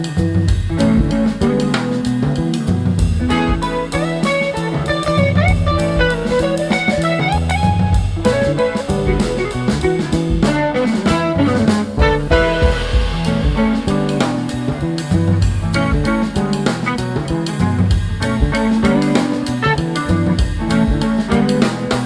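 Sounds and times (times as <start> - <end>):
upbeat guitar music with drums: 0.0 - 22.0.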